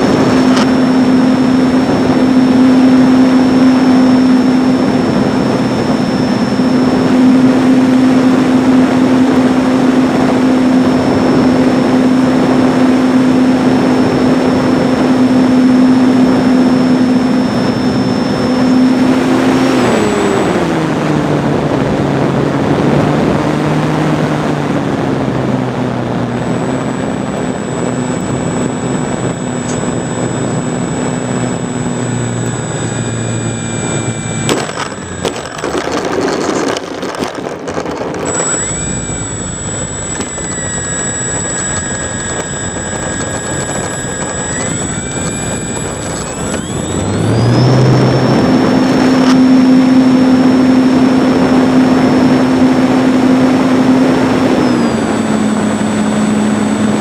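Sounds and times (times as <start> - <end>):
electric motor and propeller: 0.0 - 57.0
high whine: 0.0 - 57.0.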